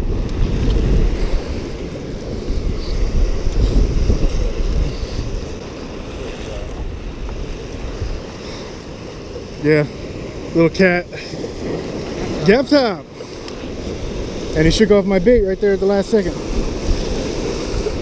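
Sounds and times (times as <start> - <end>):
surf washing against rocks: 0.0 - 18.0
wind buffeting microphone: 0.0 - 18.0.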